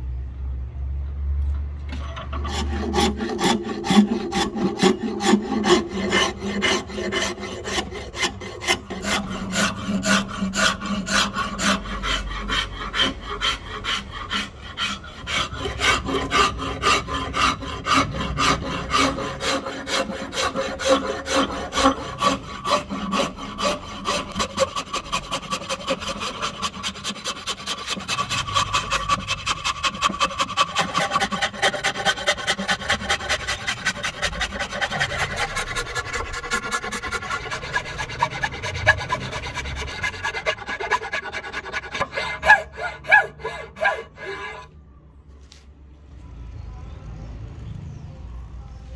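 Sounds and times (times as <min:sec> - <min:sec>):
hand rasp on wood: 0:01.9 - 0:44.7.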